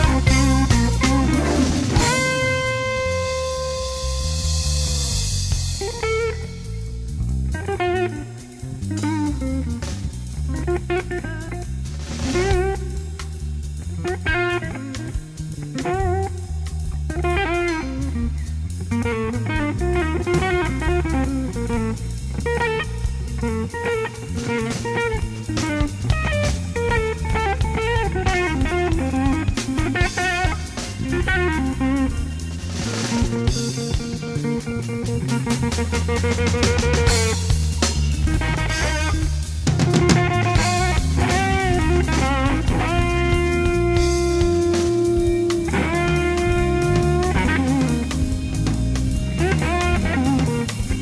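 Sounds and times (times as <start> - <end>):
bass and drum kit: 0.0 - 51.0
electric slide guitar melody: 0.0 - 51.0.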